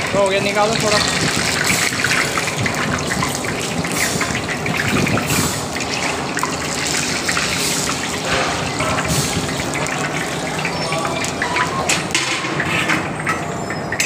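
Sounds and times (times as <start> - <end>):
oil sizzling with pops: 0.0 - 14.0.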